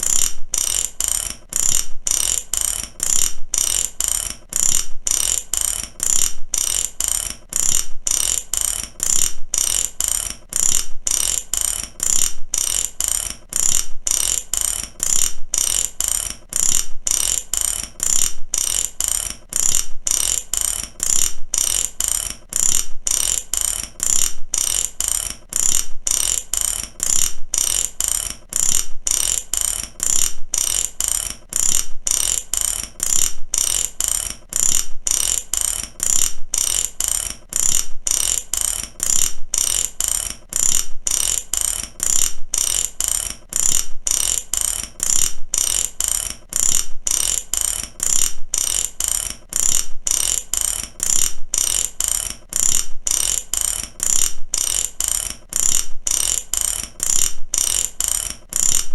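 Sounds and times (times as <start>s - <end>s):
ratchet clicking: 0.0s - 58.9s.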